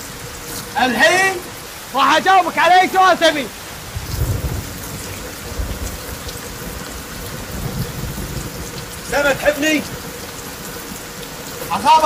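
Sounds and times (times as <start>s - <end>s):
heavy rain: 0.0s - 12.0s
thunder rumbling: 0.0s - 12.0s.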